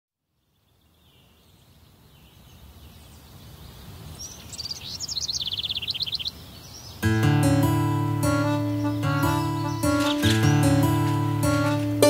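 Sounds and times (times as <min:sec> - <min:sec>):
small bird chirping: 0:00.4 - 0:07.1, 0:08.4 - 0:11.4.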